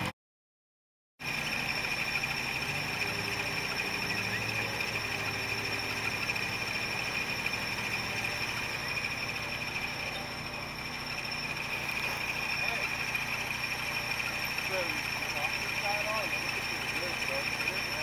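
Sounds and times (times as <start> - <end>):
car engine idling: 1.2 - 18.0
high whine: 1.2 - 18.0.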